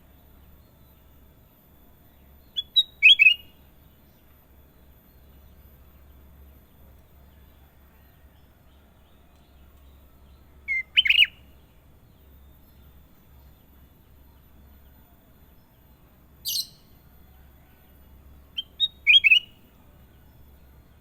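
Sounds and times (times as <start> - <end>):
bulbul singing: 0.1 - 7.4, 8.9 - 17.1, 18.4 - 21.0.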